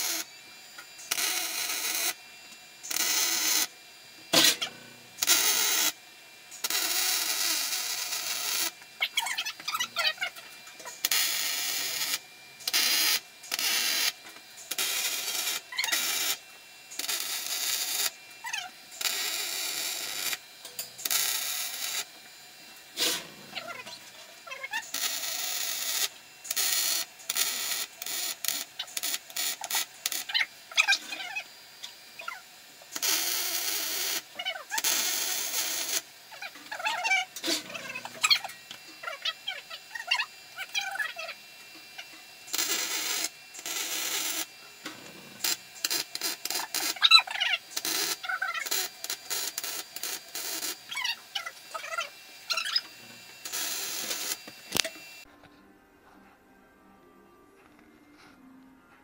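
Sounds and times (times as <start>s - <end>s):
welding arc crackling and hissing: 0.0s - 55.3s.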